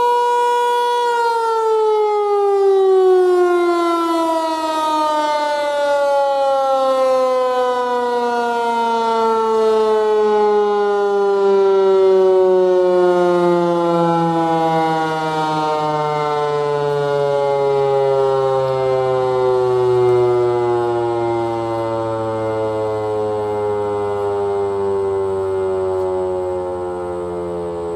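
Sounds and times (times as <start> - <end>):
warning siren winding down: 0.0 - 27.9.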